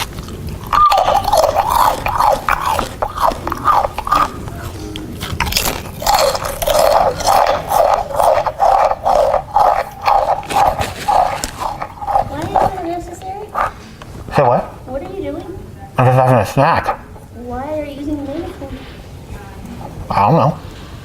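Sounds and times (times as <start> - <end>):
chewing through a megaphone: 0.0 - 15.2, 18.0 - 20.8.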